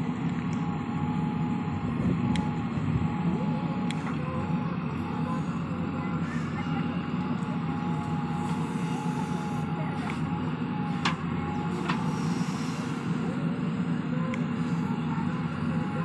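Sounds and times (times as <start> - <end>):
diesel engines running: 0.0 - 16.0
thin steady whine: 0.0 - 16.0.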